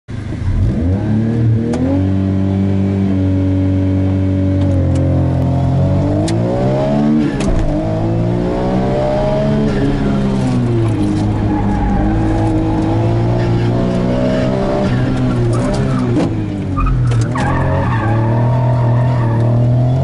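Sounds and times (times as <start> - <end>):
turbocharged engine accelerating: 0.2 - 20.0.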